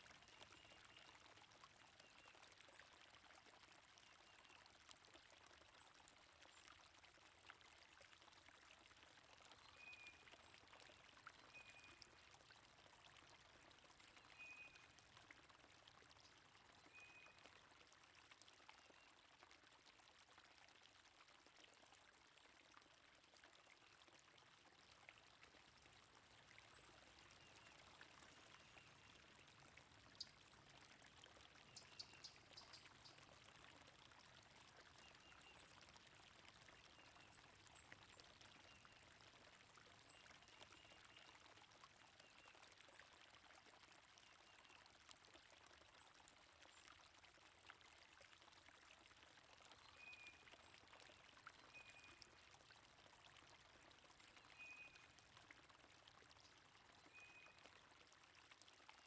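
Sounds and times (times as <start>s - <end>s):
running water of a stream: 0.0s - 59.0s.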